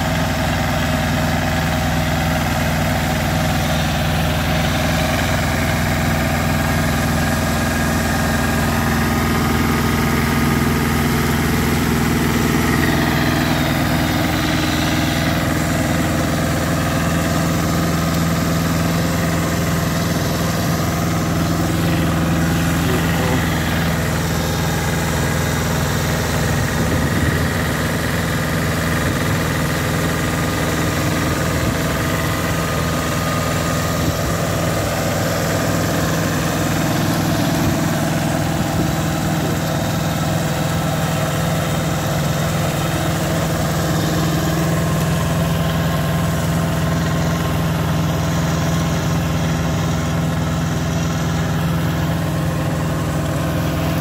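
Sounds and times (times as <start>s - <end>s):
rotary tiller through soil: 0.0s - 54.0s
tractor diesel engine under load: 0.0s - 54.0s.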